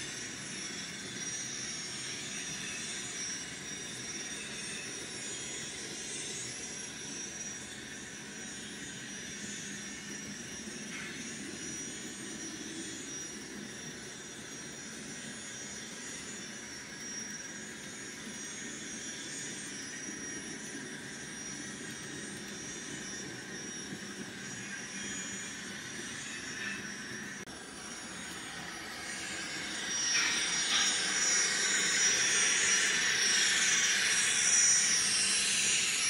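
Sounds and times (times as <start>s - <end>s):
jet-like turbine whine: 0.0s - 36.0s.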